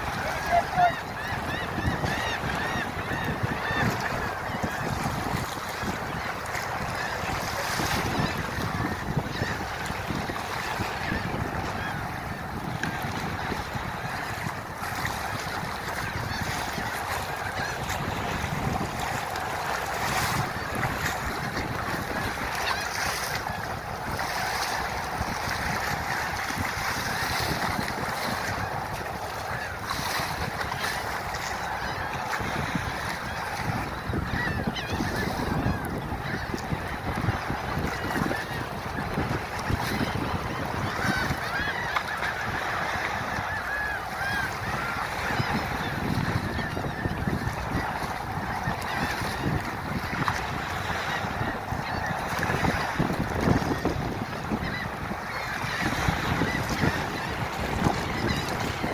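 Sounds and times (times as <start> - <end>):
birds calling: 0.0 - 58.9
waves washing on shore: 0.0 - 58.9
wind buffeting microphone: 0.0 - 58.9.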